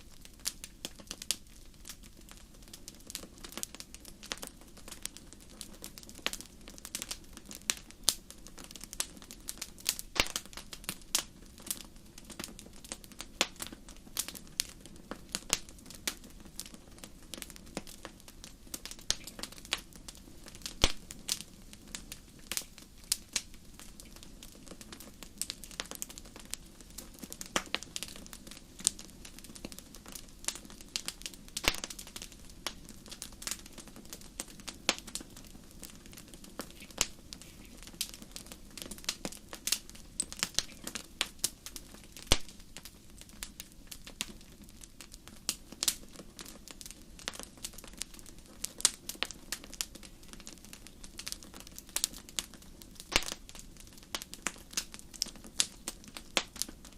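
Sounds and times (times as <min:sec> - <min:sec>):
low steady hiss: 0:00.0 - 0:56.9
wood fire crackling: 0:00.0 - 0:56.9.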